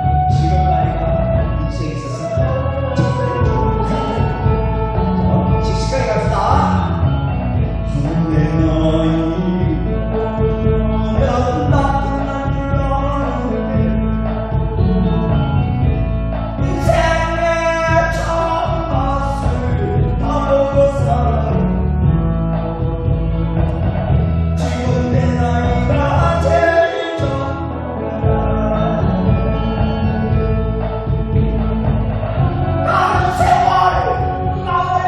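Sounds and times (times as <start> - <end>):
person singing: 0.0 - 7.1, 7.8 - 24.0, 24.6 - 35.0
instrumental backing track: 0.0 - 35.0.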